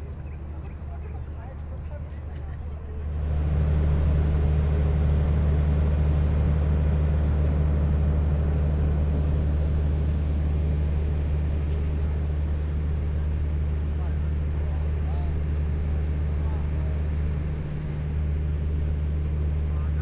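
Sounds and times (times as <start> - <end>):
low mechanical drone: 2.9 - 20.0.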